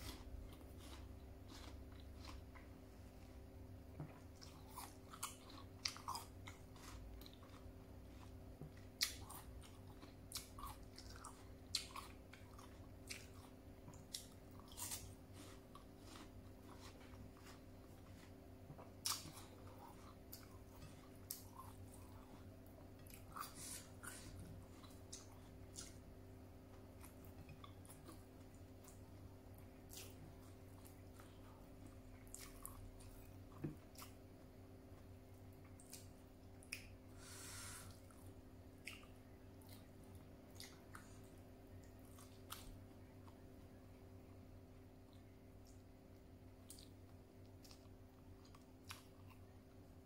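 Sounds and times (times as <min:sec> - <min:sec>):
close chewing: 0:00.0 - 0:34.2, 0:38.0 - 0:43.8, 0:46.6 - 0:49.6.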